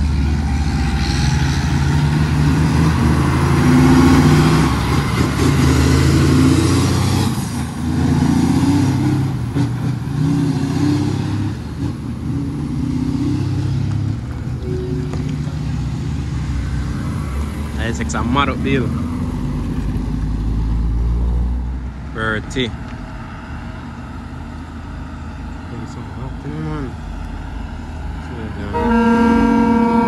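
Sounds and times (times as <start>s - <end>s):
truck diesel engine pulling: 0.0s - 30.0s.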